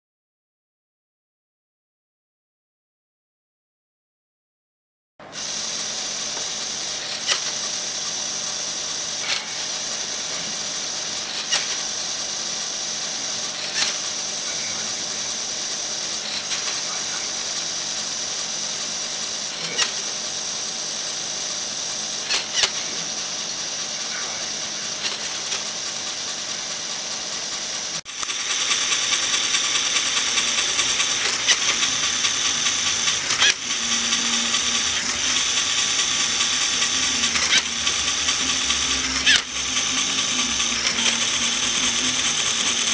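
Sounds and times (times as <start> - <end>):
motor whirring: 5.2 - 42.9.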